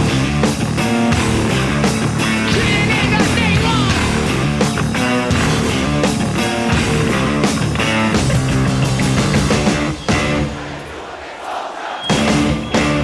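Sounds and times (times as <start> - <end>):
instrumental rock music: 0.0 - 10.8, 12.1 - 13.0.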